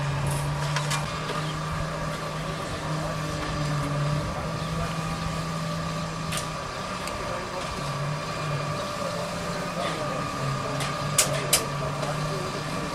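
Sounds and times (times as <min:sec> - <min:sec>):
concrete mixer engine droning: 0:00.0 - 0:12.9.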